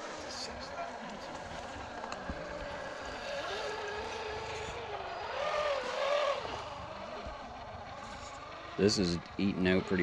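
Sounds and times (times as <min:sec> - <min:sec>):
electric motor and gear whine: 0:00.0 - 0:10.0.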